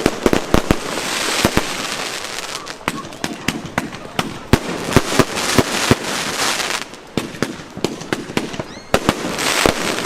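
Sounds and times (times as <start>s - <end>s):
firecrackers banging: 0.0s - 10.0s
firework hiss: 0.0s - 10.0s.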